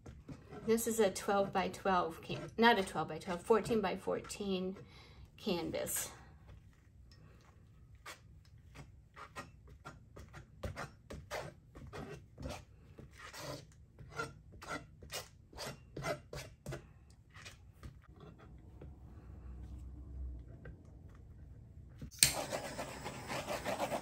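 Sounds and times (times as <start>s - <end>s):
spatula scraping paint on canvas: 0.0s - 18.9s, 22.4s - 24.0s.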